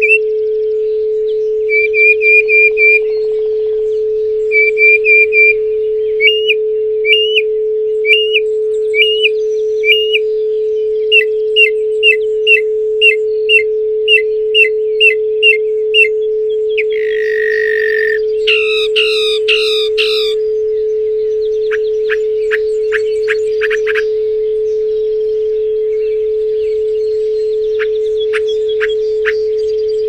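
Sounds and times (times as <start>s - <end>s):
songbird whistling: 0.0s - 30.0s
steady pure tone: 0.0s - 30.0s.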